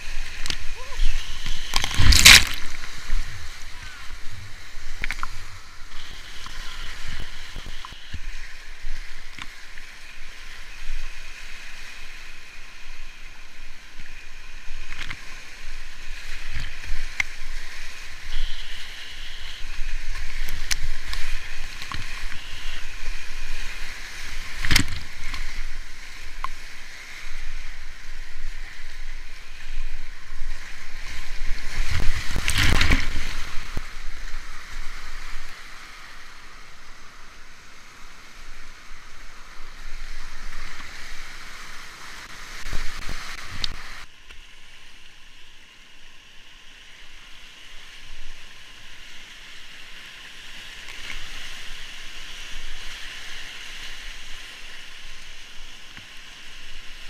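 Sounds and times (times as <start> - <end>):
paddle and wave splashes: 0.0 - 57.0
rapids rushing and crashing: 0.0 - 57.0.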